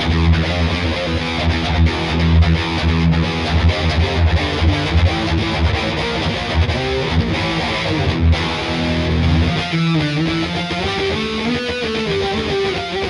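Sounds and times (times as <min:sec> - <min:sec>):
distorted electric guitar riff: 0:00.0 - 0:13.0.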